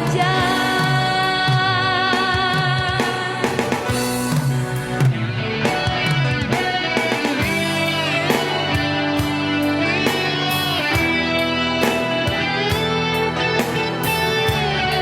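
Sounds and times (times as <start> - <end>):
drum kit: 0.0 - 15.0
guitar: 0.0 - 15.0
pop-rock band music: 0.0 - 15.0.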